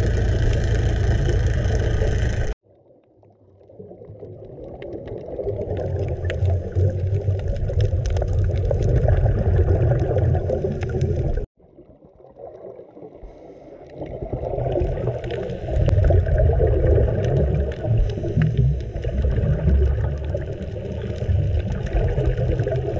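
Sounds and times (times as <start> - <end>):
exhaled air bubbling underwater: 0.0 - 22.9
muffled underwater rumble: 0.0 - 22.9.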